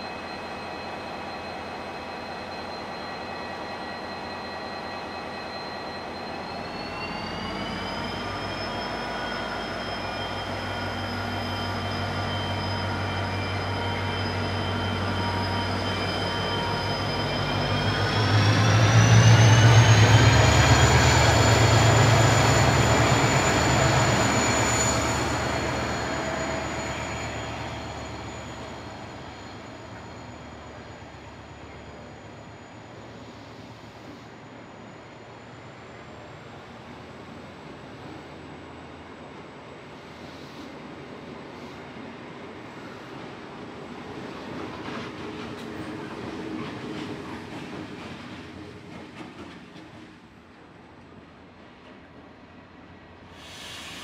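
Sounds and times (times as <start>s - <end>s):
diesel locomotive engine whining: 0.0s - 54.0s.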